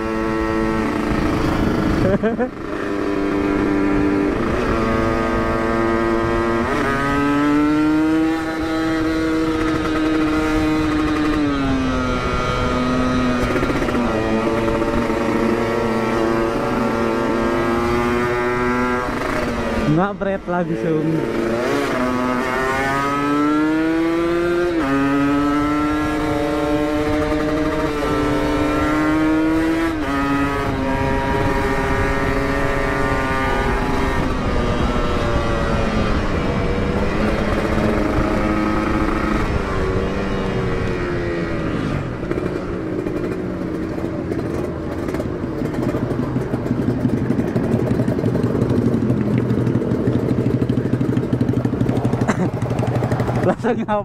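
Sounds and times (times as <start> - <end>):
motorcycle accelerating through gears: 0.0 - 54.0.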